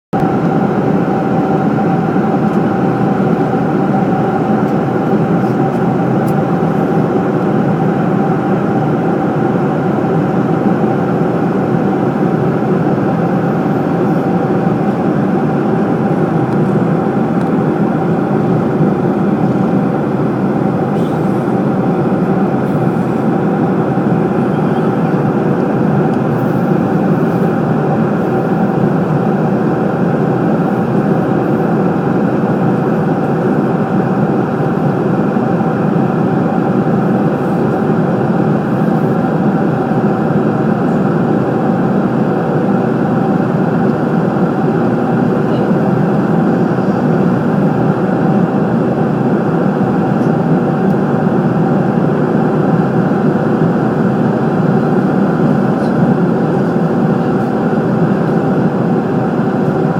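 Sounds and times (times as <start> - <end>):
airliner cabin engine noise: 0.1 - 59.9.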